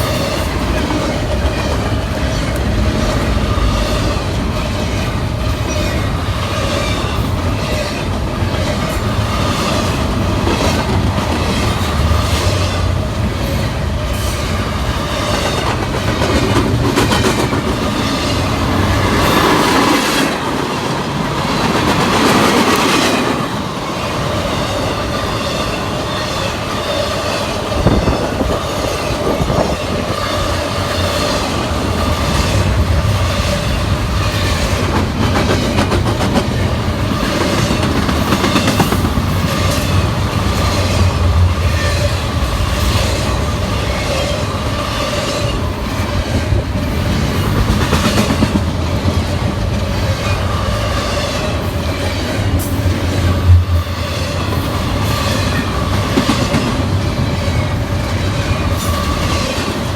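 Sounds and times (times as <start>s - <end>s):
freight train cars rumbling past: 0.0s - 59.9s.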